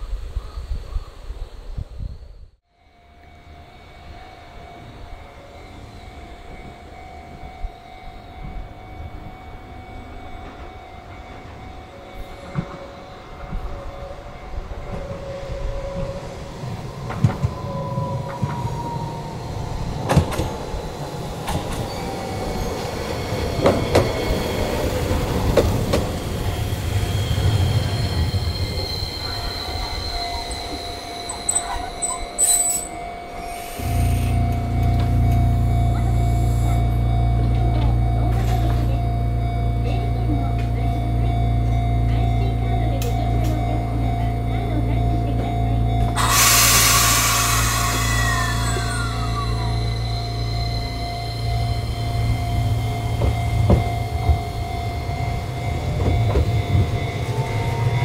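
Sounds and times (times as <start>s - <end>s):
train motor whine: 1.7s - 58.0s
level-crossing bell ringing: 2.8s - 58.0s
train wheels rumbling on rails: 3.2s - 58.0s.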